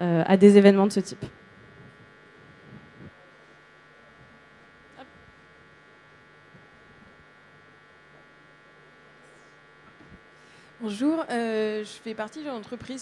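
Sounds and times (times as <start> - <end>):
sound system electrical buzz: 0.0 - 13.0.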